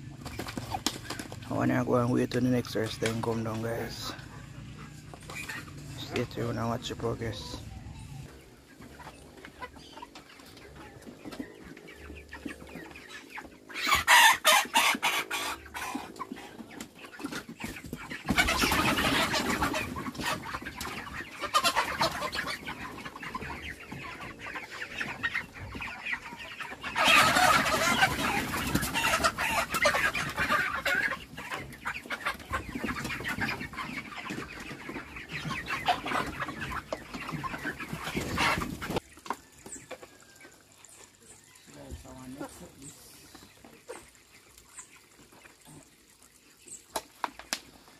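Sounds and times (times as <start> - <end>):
chickens squawking and clucking: 0.0 - 47.9.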